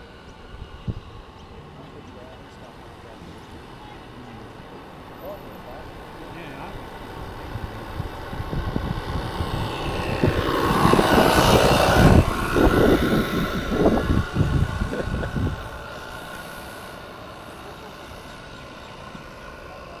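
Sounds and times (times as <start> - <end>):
steam model boat engine: 0.0 - 20.0
hull spray: 1.8 - 20.0.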